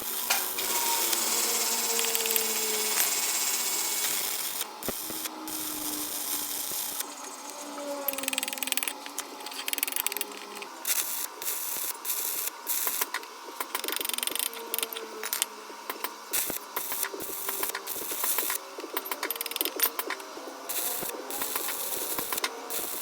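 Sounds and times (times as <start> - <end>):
welding arc crackling and sputtering: 0.0 - 23.0.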